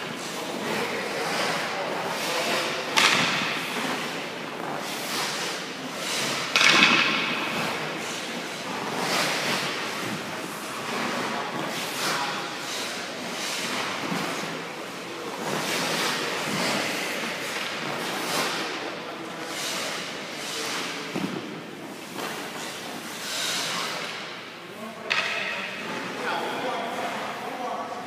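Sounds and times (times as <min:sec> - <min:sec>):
ice skates scraping ice: 0:00.0 - 0:24.4.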